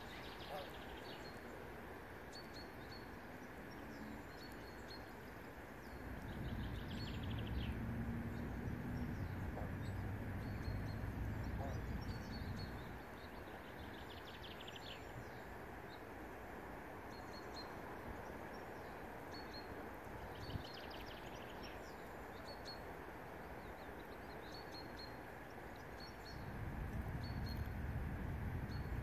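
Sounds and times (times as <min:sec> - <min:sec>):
small birds chirping and trilling: 0:00.0 - 0:29.0
steady outdoor hiss: 0:00.0 - 0:29.0.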